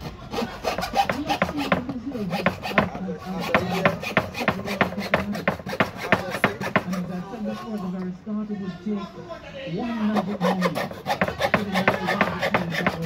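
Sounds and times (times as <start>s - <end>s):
coping saw cutting plywood: 0.0s - 7.8s, 10.0s - 13.0s.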